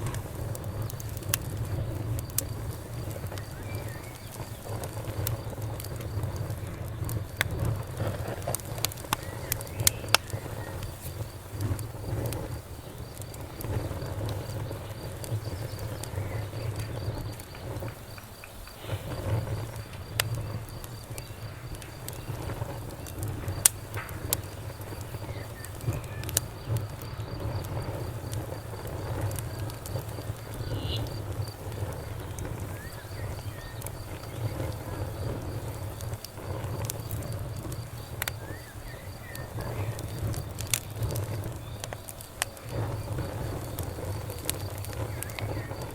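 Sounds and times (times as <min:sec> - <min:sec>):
campfire crackling: 0:00.0 - 0:45.9
crickets chirping: 0:00.0 - 0:45.9.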